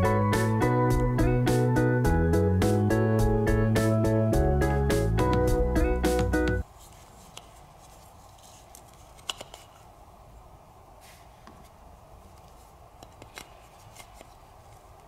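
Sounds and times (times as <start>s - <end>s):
low steady hiss: 0.0s - 15.0s.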